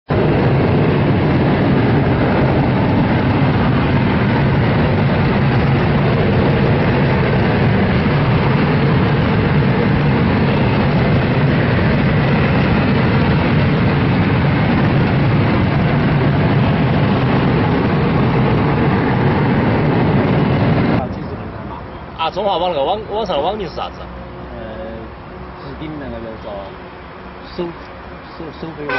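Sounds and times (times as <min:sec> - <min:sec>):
jet engines running: 0:00.0 - 0:28.9.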